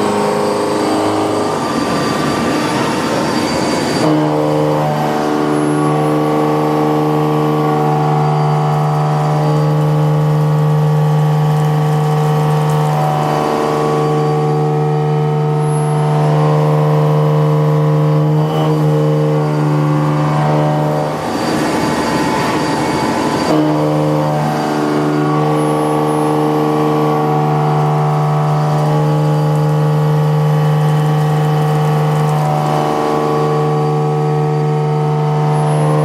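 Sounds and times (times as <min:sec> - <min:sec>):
milling cutter machining metal: 0:00.0 - 0:36.0.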